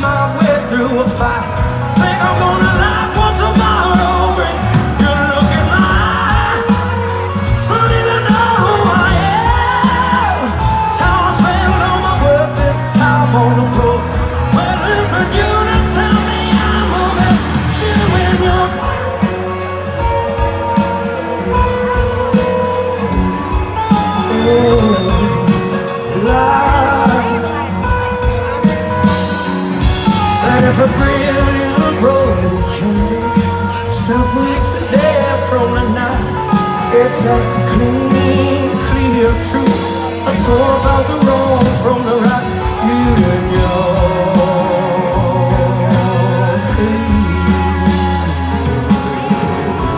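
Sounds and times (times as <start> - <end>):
lead guitar line bending: 0.0 - 49.9
live rock band playing: 0.0 - 49.9.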